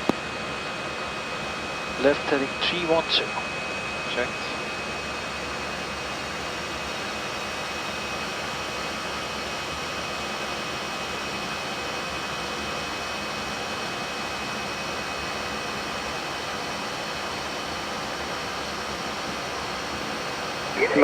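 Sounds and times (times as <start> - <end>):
airflow and jet engine rush: 0.0 - 21.0
faint steady whines: 0.0 - 21.0.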